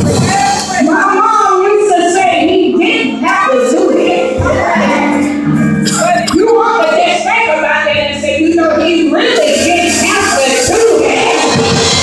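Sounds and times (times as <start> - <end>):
gospel music with voices singing: 0.0 - 12.0.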